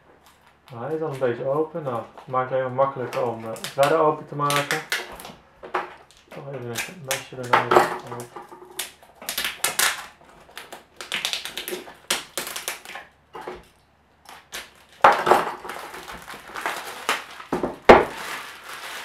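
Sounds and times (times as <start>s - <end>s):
tape peeling crackle: 0.1s - 5.4s, 6.0s - 19.0s.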